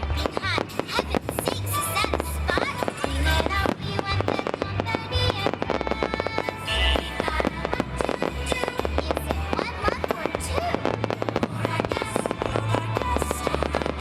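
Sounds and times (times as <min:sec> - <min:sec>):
music playing: 0:00.0 - 0:14.0.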